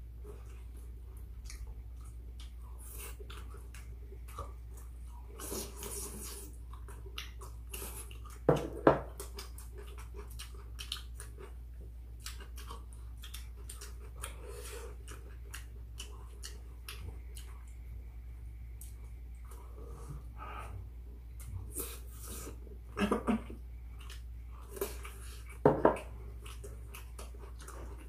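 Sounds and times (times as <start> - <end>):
chewing: 0.2 - 18.0, 21.4 - 28.0.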